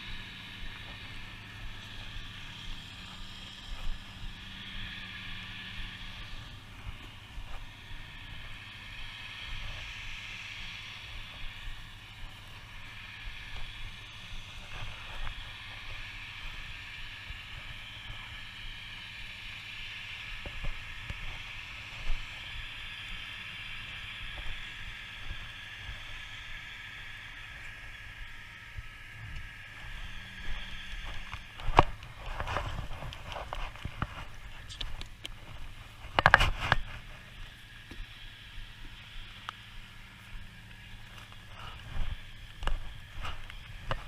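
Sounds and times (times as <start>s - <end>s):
steady high hiss: 0.0s - 44.0s
wind rumbling on microphone: 0.0s - 44.0s.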